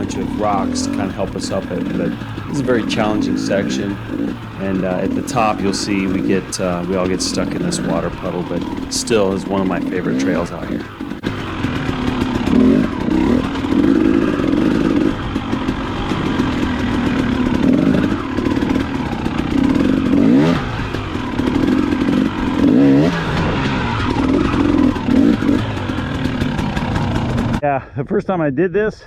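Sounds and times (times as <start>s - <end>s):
dirt bike engine revving: 0.0s - 27.6s.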